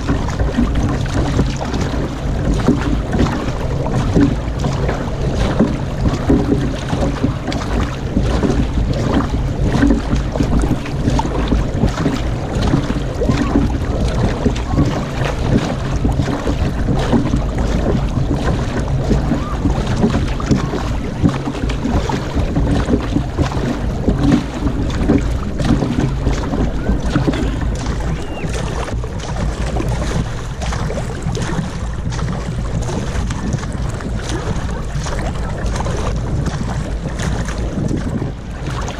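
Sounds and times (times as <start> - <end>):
paddle splashing in water: 0.0 - 38.9
water rushing along hull: 0.0 - 38.9
wind buffeting microphone: 0.0 - 38.9.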